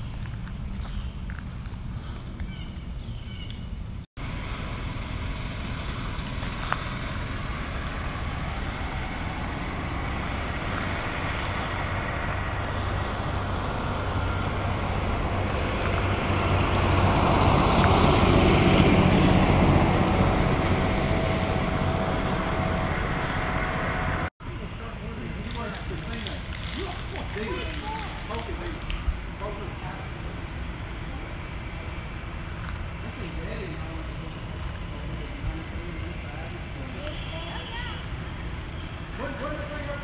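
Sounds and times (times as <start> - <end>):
motor vehicle engine hum: 0.0 - 40.0
road noise: 0.0 - 40.0.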